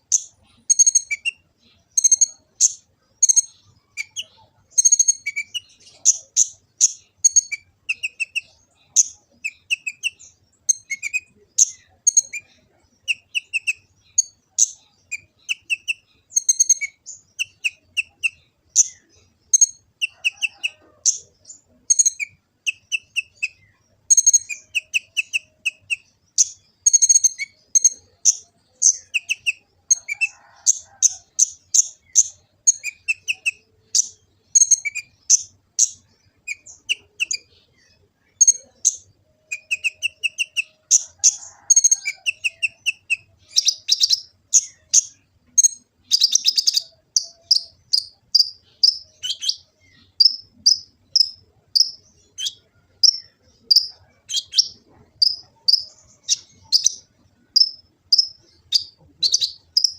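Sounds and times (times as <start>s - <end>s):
sunbird chirping and trilling: 0.0s - 59.9s.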